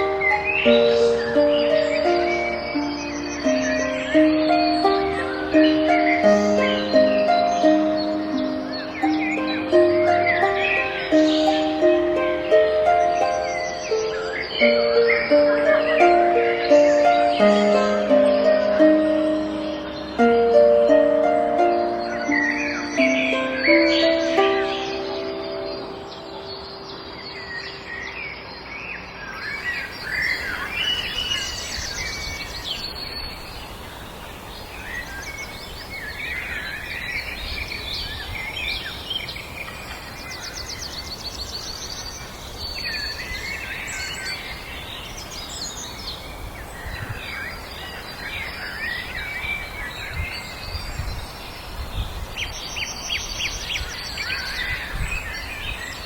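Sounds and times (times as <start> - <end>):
low steady background hiss: 0.0 - 56.0
songbirds singing and chirping: 0.0 - 56.0.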